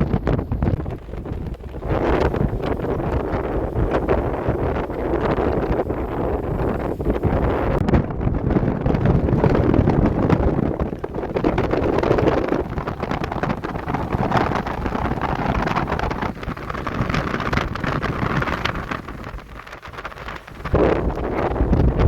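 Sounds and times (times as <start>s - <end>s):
gusting wind buffeting microphone: 0.0s - 22.0s.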